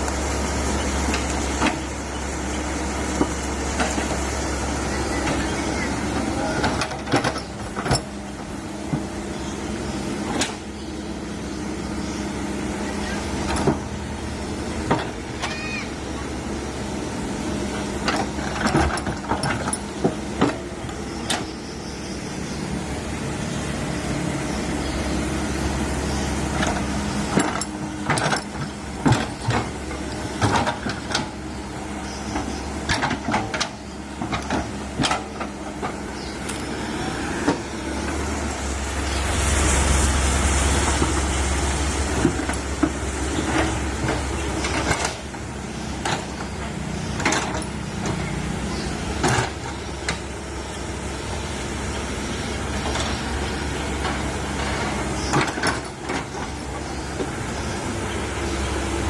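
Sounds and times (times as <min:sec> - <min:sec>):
excavator running: 0:00.0 - 0:59.0.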